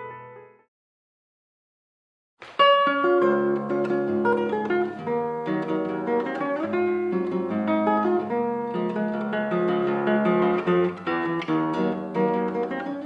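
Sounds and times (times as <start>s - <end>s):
acoustic guitar music: 0.0s - 0.7s, 2.4s - 13.0s.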